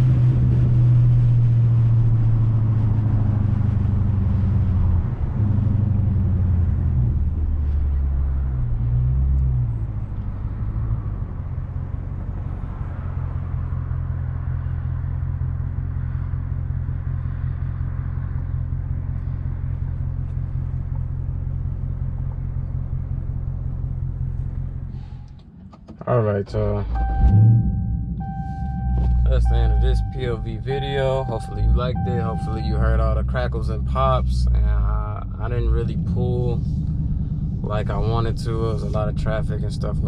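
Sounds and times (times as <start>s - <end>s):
car exhaust rumble: 0.0s - 40.0s.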